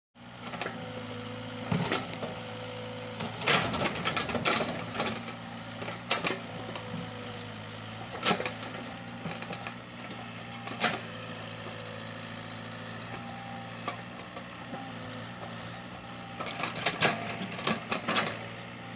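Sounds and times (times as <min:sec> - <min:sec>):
excavator diesel engine running: 0:00.2 - 0:18.9.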